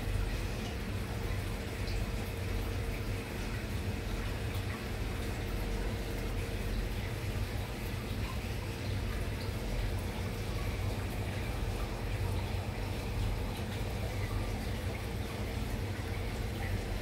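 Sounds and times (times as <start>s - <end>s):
pump humming: 0.0s - 17.0s
water trickling and bubbling: 0.0s - 17.0s.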